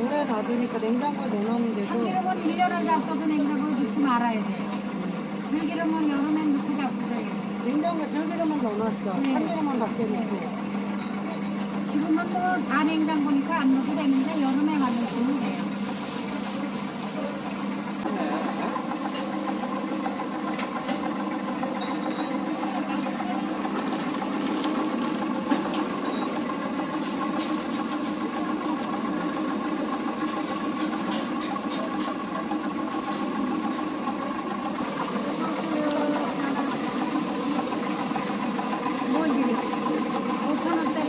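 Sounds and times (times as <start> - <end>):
machine droning: 0.0 - 41.0.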